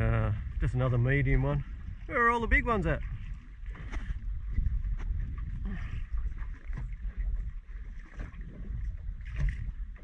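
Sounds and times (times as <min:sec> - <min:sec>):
water slapping against hull: 0:00.0 - 0:10.0
wind rumble on microphone: 0:00.0 - 0:10.0.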